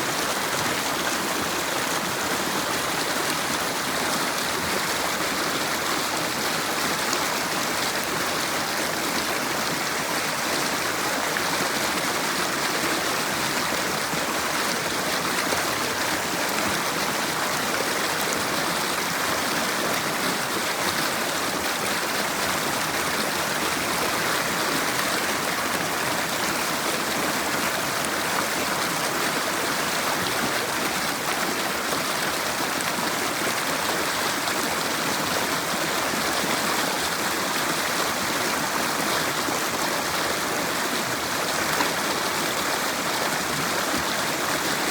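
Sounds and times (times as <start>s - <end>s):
river water rushing over stones: 0.0s - 44.9s.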